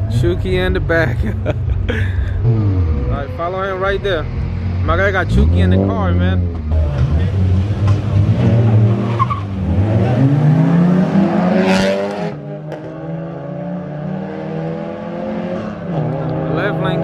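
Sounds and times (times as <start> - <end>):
race car engine accelerating: 2.4 - 17.0.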